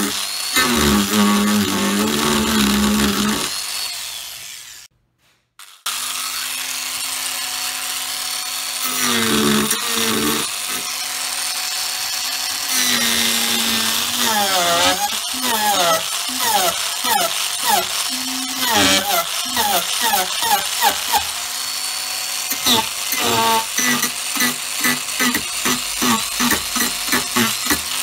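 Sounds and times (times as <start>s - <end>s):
angle grinder cutting wood: 0.0s - 4.9s, 5.6s - 28.0s.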